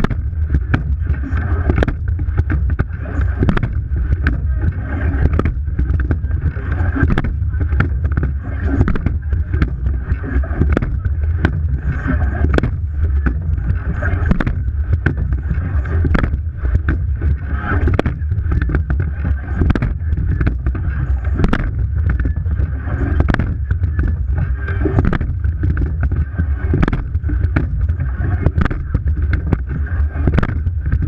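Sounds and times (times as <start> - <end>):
oars knocking: 0.0 - 31.0.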